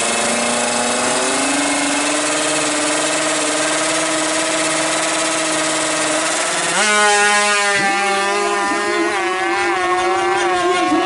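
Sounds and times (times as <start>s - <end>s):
motorcycle engine revving and accelerating: 0.0s - 11.0s.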